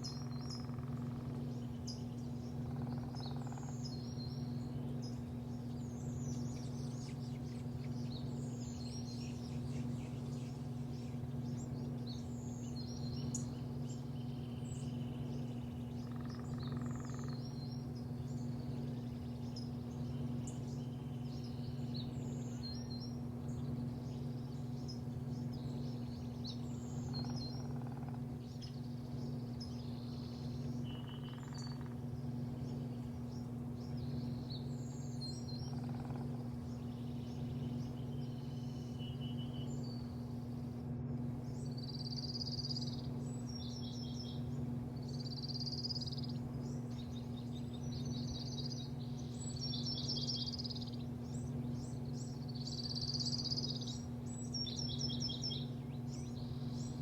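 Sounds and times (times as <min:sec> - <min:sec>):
low mechanical hum: 0:00.0 - 0:57.0
small birds chirping: 0:00.0 - 0:57.0.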